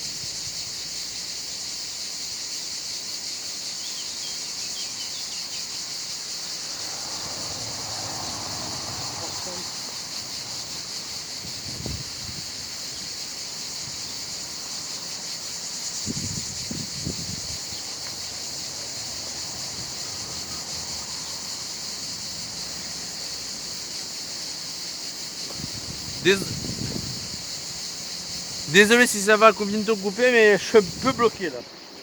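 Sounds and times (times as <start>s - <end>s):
cicadas shrilling: 0.0s - 32.0s.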